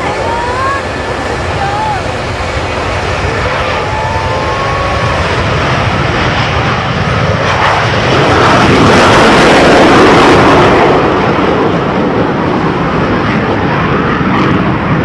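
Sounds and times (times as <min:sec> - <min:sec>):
fighter jets taking off: 0:00.0 - 0:15.0.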